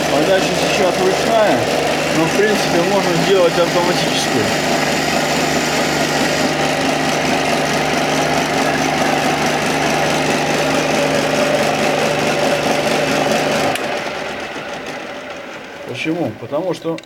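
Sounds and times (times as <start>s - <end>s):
lathe running down: 0.0s - 17.0s
metal lathe running: 0.0s - 17.0s.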